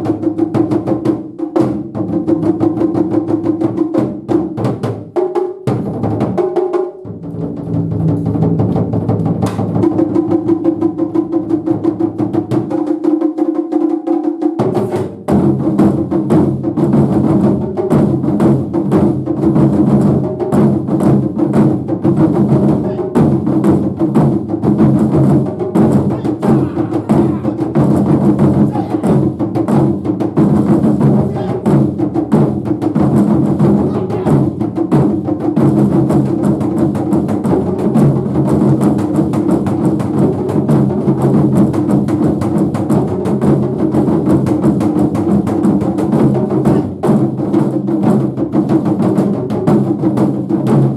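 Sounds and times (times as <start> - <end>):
taiko drum ensemble playing: 0.0 - 50.9.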